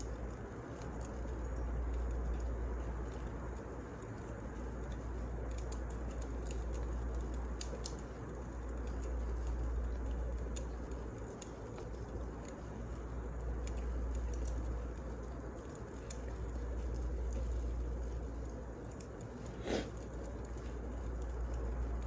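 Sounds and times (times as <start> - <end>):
fire crackles and pops: 0.0 - 22.0
wood fire rumbling and hissing: 0.0 - 22.0.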